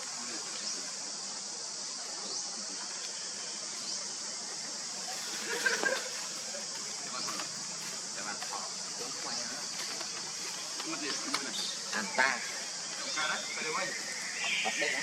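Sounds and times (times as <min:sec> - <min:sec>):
high-pitched insect drone: 0:00.0 - 0:15.0
loud insect call: 0:00.0 - 0:15.0.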